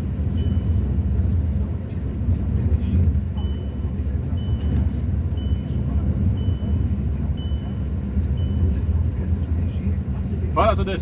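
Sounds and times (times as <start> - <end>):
car driving interior drone: 0.0 - 11.0.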